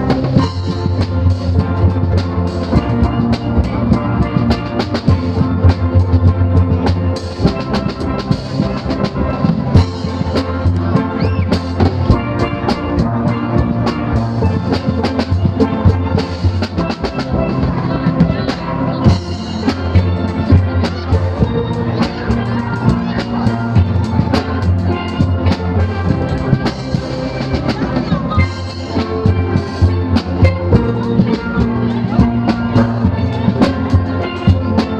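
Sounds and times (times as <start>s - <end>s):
steady drum beat: 0.0s - 34.9s
steel pan band playing: 0.0s - 34.9s.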